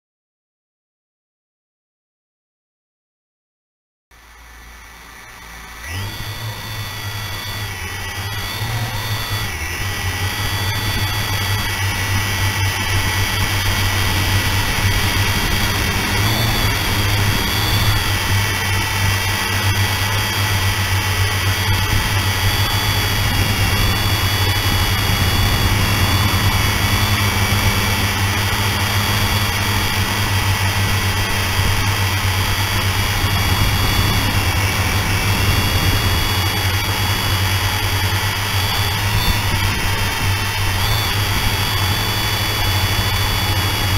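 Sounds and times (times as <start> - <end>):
drone propellers buzzing: 4.2 - 43.9.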